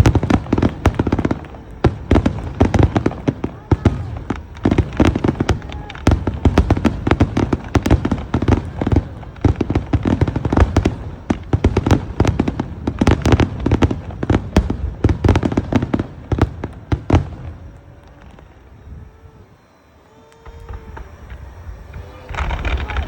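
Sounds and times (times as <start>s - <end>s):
aerial fireworks bursting: 0.0s - 23.0s.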